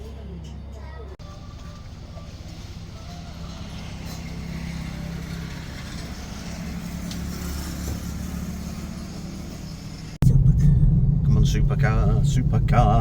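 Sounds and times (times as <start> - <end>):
road noise: 0.0 - 13.0
car engine running: 1.2 - 13.0.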